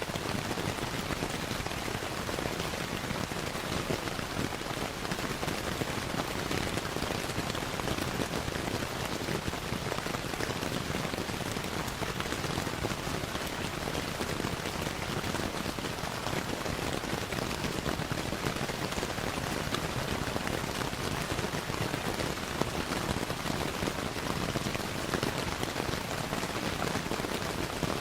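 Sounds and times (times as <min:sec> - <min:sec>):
steady rain patter: 0:00.0 - 0:28.0.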